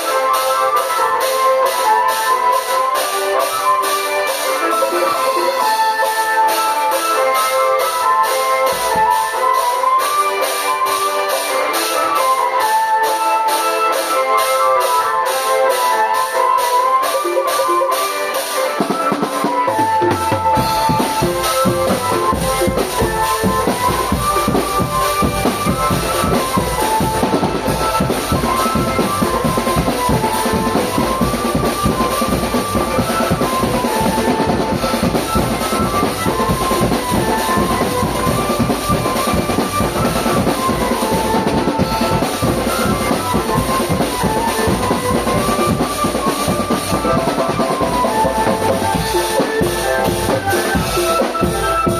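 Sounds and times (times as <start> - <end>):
melody line: 0.0 - 51.9
snare drums: 0.0 - 51.9.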